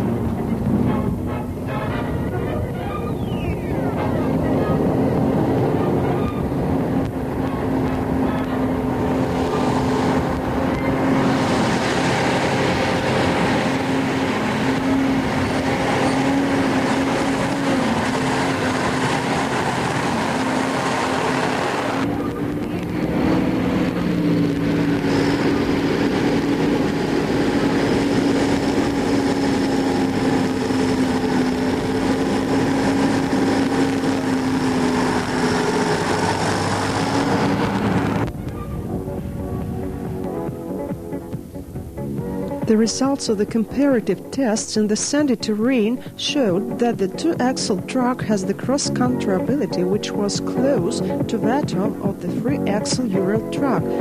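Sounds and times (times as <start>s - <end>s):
truck engine drone: 0.0s - 54.0s.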